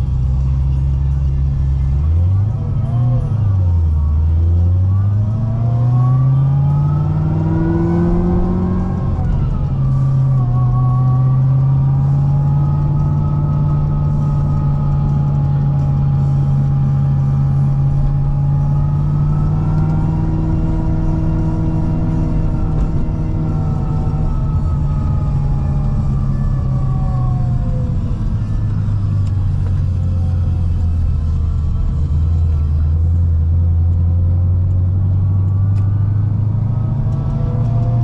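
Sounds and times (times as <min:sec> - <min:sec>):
car engine accelerating: 0:00.0 - 0:38.0.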